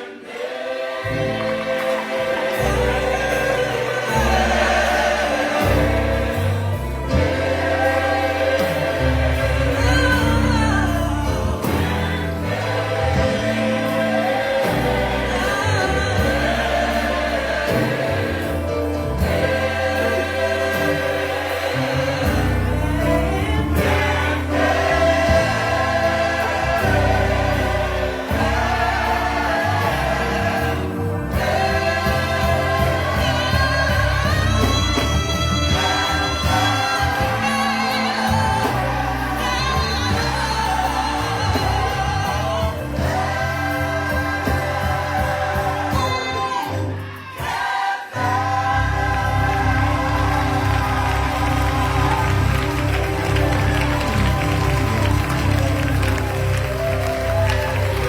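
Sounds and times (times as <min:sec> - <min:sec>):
gospel choir singing: 0:00.0 - 0:58.0
bass line: 0:01.1 - 0:47.0, 0:48.2 - 0:58.0.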